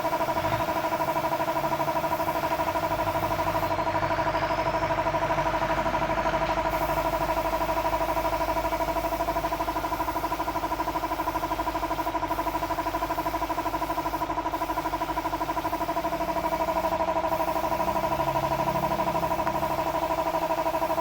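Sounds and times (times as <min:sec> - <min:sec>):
machine with pulsing hum: 0:00.0 - 0:21.0.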